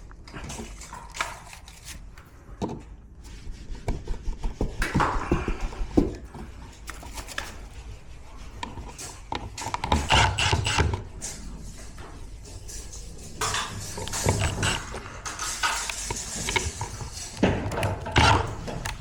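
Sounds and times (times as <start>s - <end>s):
rubbing and scraping: 0.3s - 19.0s.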